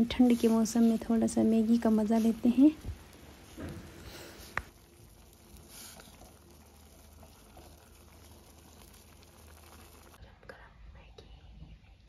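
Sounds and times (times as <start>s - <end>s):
noodles bubbling in pot: 0.0s - 10.2s.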